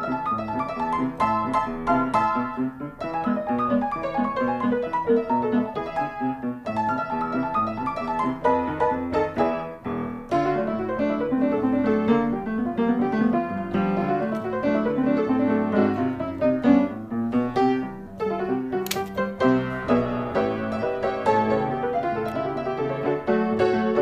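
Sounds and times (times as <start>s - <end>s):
lively piano music: 0.0s - 24.0s.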